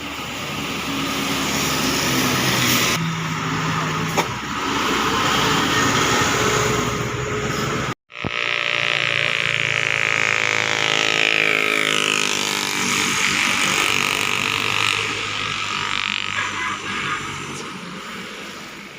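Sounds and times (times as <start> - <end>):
vehicle engines in traffic: 0.0 - 18.9.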